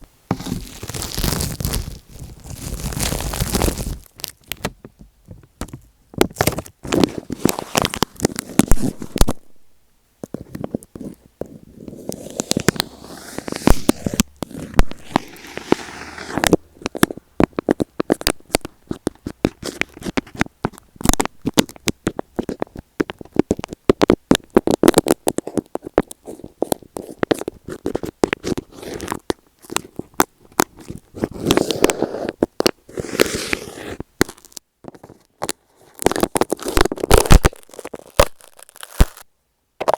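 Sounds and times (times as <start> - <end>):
tape crackling on microphone: 0.0 - 9.6, 10.2 - 39.9.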